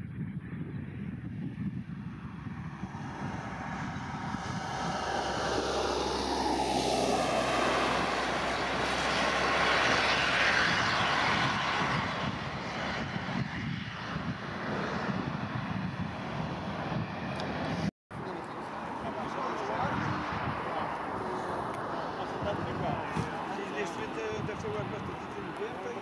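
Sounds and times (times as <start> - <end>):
jet engine whine: 0.3 - 26.0
jet airliner taking off: 0.9 - 26.0.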